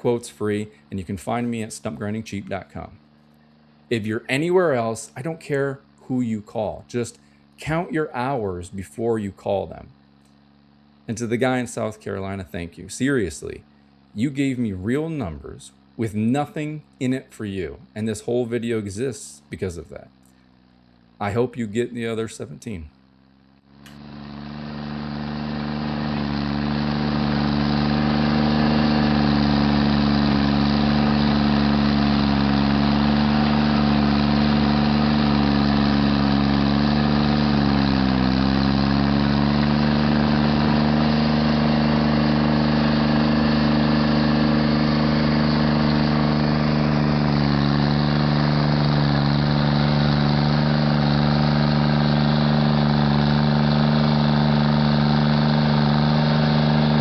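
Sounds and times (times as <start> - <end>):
stump grinder engine running: 0.0 - 57.0.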